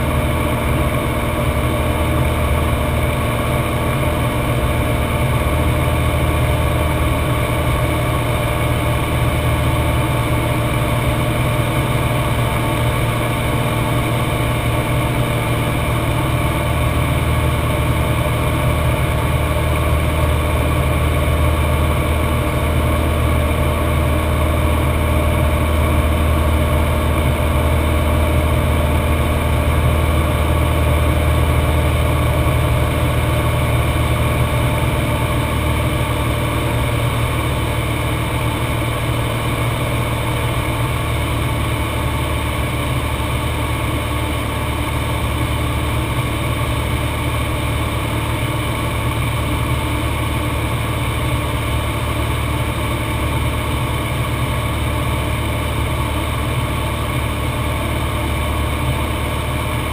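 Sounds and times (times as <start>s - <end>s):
airplane engine hum in cockpit: 0.0s - 59.9s.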